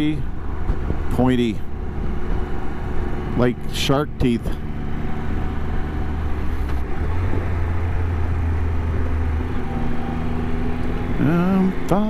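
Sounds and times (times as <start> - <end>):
motorcycle engine cruising: 0.0 - 12.0
road noise: 0.0 - 12.0.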